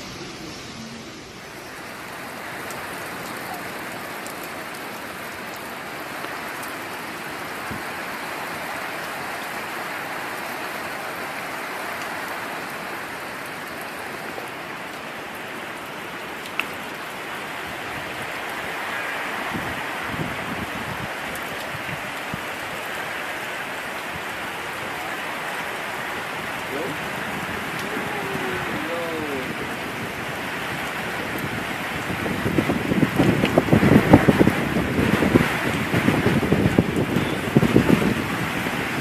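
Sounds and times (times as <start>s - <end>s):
heavy rain and wind: 0.0s - 39.0s.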